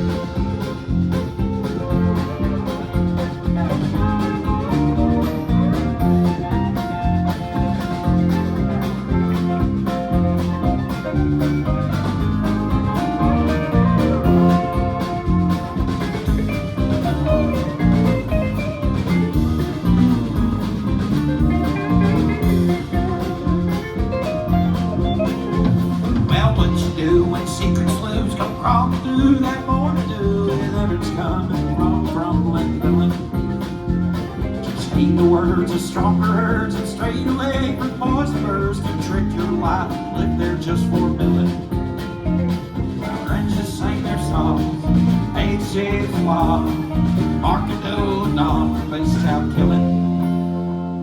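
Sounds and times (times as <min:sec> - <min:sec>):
drum kit beat: 0:00.0 - 0:51.0
guitar: 0:00.0 - 0:51.0
live band playing: 0:00.0 - 0:51.0.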